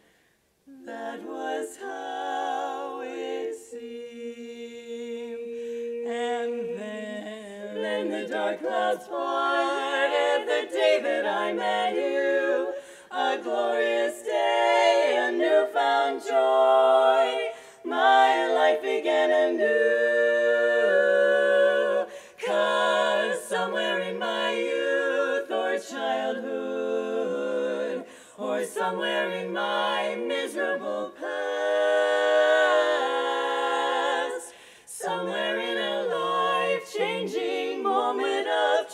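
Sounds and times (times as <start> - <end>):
women singing in close harmony: 0.0 - 38.9.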